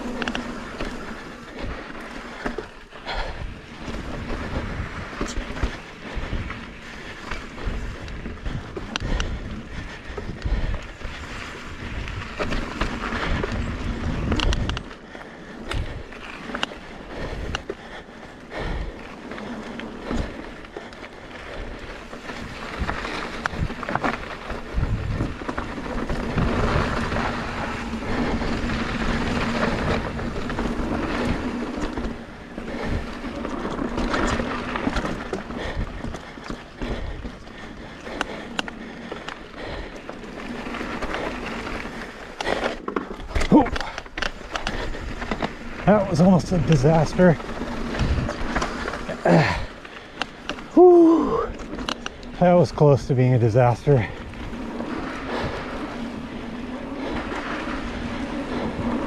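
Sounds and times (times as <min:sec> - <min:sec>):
bike rattling and knocking: 0:00.0 - 0:59.0
bike tyres on dirt and rock: 0:00.0 - 0:59.0.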